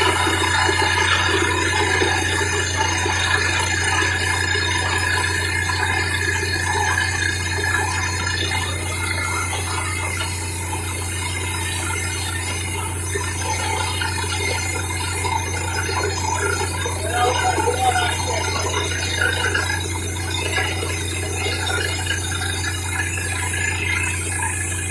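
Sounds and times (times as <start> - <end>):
drilling machine humming: 0.0 - 24.9
rushing water-like noise: 0.0 - 24.9.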